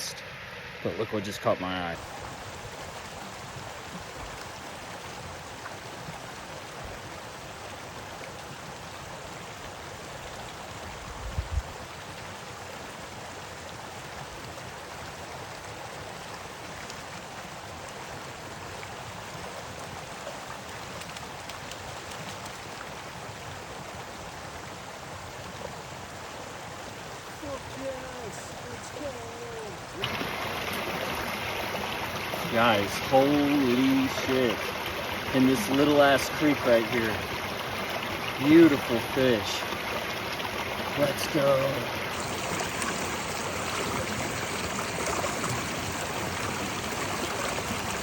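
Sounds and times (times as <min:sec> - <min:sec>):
creek water running: 0:00.0 - 0:48.0.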